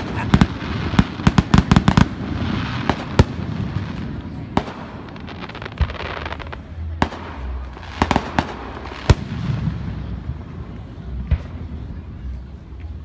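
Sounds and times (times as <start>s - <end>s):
fireworks bangs: 0.0s - 12.4s
fireworks crackling: 0.0s - 13.0s.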